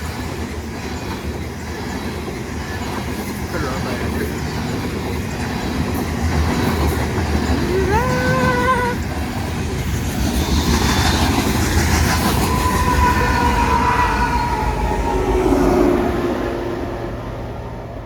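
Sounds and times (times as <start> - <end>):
train cars rumbling and clattering: 0.0 - 18.0.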